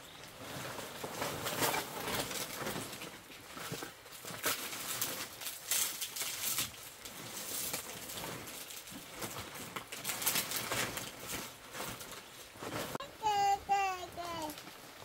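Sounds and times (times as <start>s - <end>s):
palm-leaf thatch rustling: 0.0s - 15.0s.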